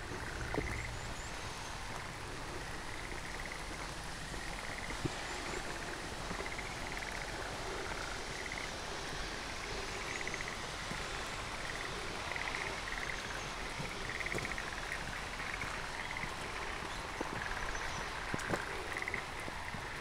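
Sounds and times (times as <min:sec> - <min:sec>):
frogs calling in trills: 0:00.0 - 0:20.0
rain hiss: 0:00.0 - 0:20.0.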